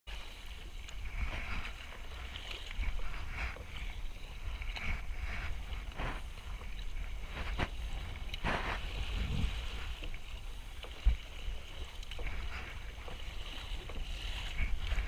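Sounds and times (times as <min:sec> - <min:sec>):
water rushing along hull: 0:00.1 - 0:15.0
wind buffeting microphone: 0:00.8 - 0:15.0.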